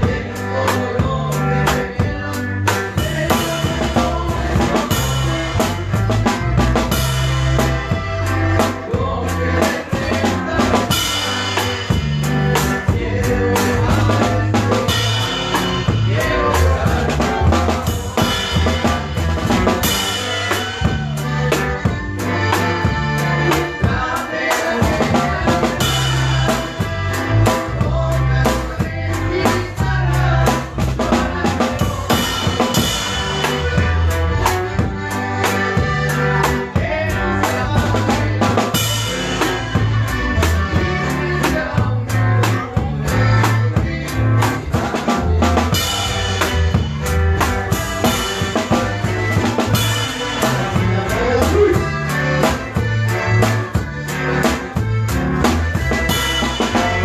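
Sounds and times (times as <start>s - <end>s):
accordion melody: 0.0s - 57.0s
bass line: 0.0s - 57.0s
drum kit steady beat: 0.0s - 57.0s.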